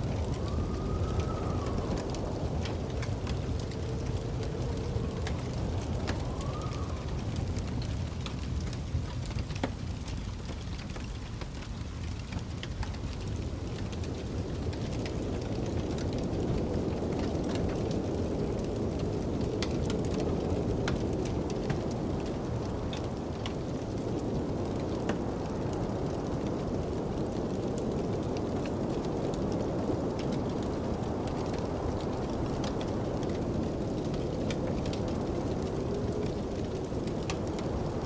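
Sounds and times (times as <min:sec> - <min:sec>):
low rumble of wind: 0:00.0 - 0:38.0
wind whistling: 0:00.0 - 0:38.0
wood fire crackling and popping: 0:00.0 - 0:38.0.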